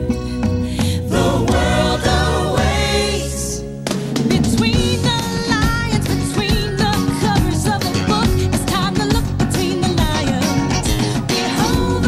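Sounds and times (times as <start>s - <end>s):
guitar: 0.0s - 12.0s
steady drum beat: 0.0s - 12.0s.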